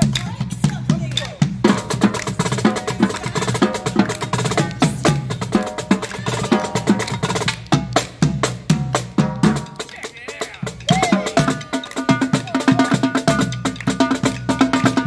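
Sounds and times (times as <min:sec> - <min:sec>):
marching drum line: 0:00.0 - 0:15.0.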